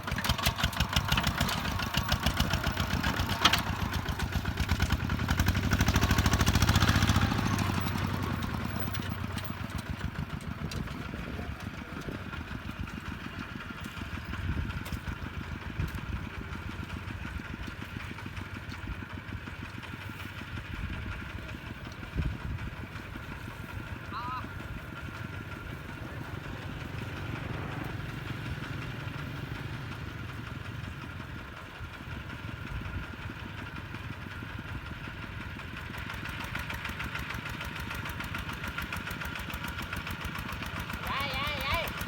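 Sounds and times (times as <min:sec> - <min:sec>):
diesel tractor engine knocking: 0:00.0 - 0:42.0.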